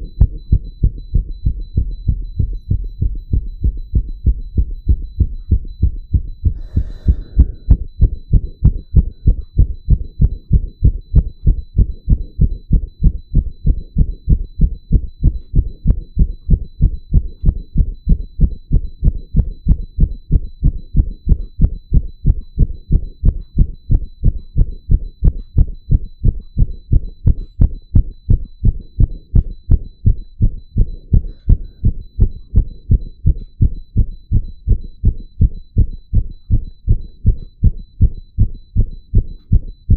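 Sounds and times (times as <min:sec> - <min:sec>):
ecg monitor beeps: 0:00.0 - 0:39.9
heartbeat thumps: 0:00.0 - 0:39.9.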